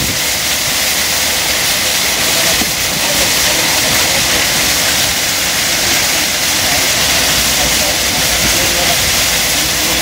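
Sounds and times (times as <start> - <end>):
shopping trolleys rolling over tarmac: 0.0 - 10.0.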